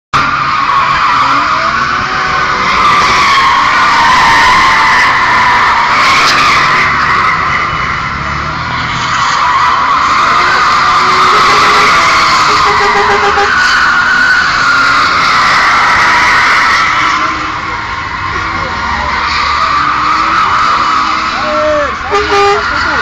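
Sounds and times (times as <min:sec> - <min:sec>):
car engine revving: 0:00.2 - 0:23.0
car tyres squealing: 0:00.2 - 0:23.0.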